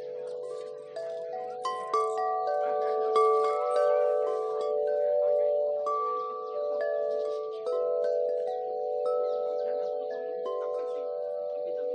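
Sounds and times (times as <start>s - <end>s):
wind chimes ringing: 0.0s - 11.9s.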